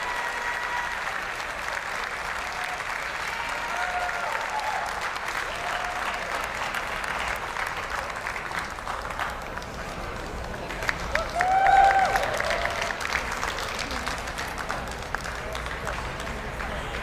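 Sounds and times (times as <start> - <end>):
audience clapping: 0.0 - 17.0
crowd cheering: 0.0 - 17.0.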